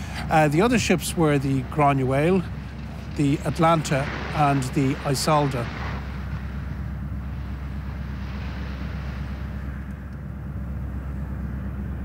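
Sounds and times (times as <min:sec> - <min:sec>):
ship engine rumble: 0:00.0 - 0:12.0.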